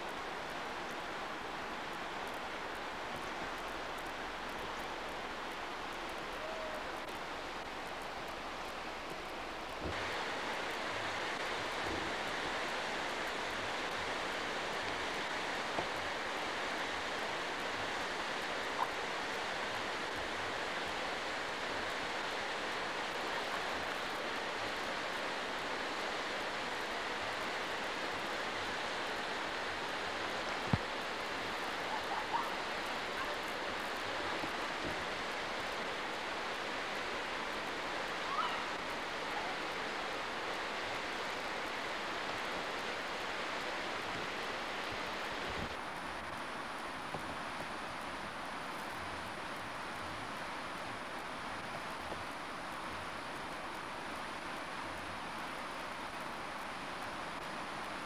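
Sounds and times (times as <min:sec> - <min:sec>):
river water rushing over rapids: 0:00.0 - 0:58.0.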